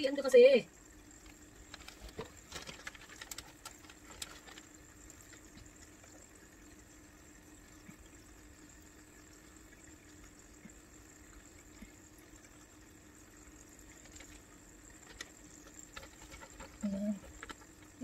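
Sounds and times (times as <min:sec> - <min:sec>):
faint aquarium water: 0:00.0 - 0:18.0.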